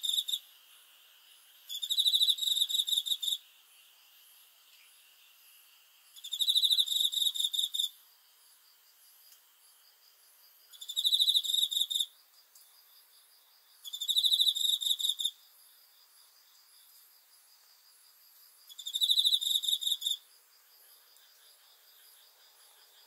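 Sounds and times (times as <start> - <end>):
chorus of insects: 0.0 - 23.0
cricket chirping trills: 0.0 - 23.0.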